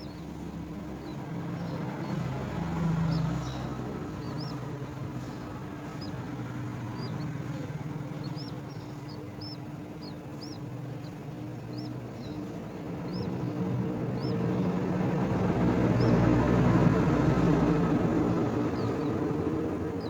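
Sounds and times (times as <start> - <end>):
steady low hum: 0.0 - 20.0
high bird chirps: 0.9 - 16.3, 17.3 - 20.0.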